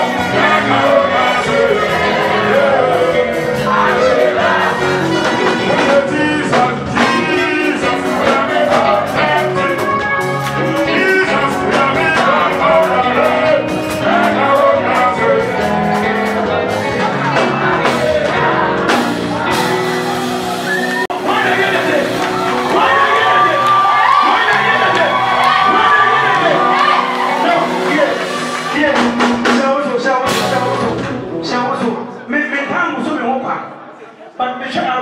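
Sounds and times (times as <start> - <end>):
man singing into a microphone: 0.0 - 18.6, 22.7 - 32.7
band with steady drum beat: 0.0 - 31.5.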